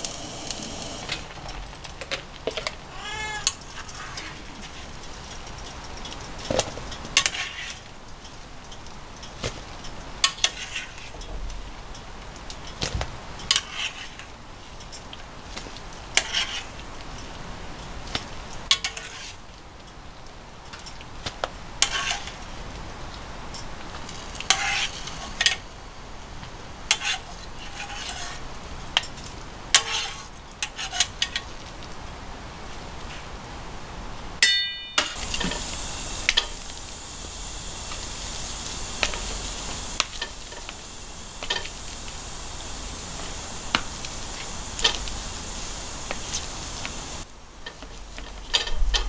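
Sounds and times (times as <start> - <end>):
boiling water hiss: 0.0 - 49.0.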